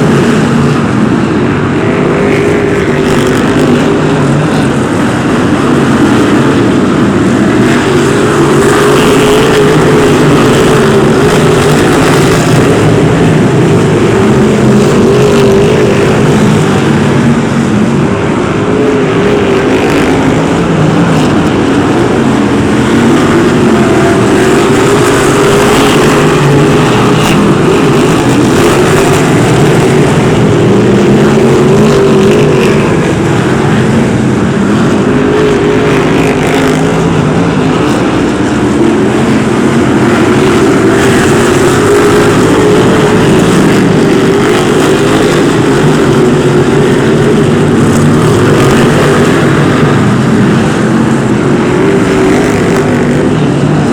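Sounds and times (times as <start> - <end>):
racing car engines: 0.0 - 53.9.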